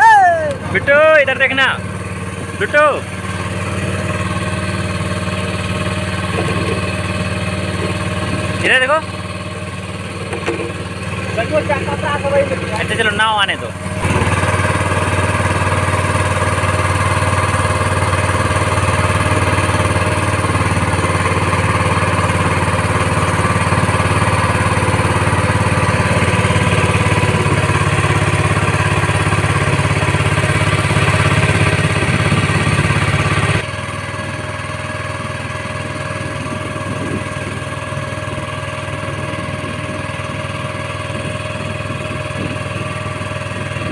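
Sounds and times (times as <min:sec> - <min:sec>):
boat motor humming: 0:00.0 - 0:43.9.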